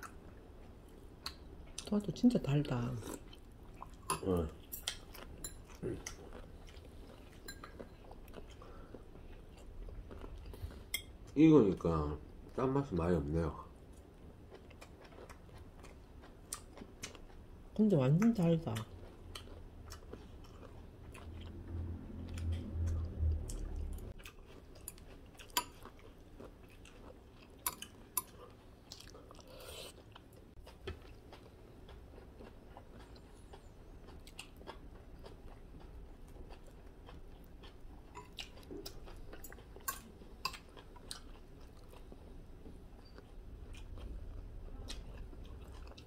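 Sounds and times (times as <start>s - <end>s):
person chewing food: 3.0s - 11.4s, 13.7s - 46.0s.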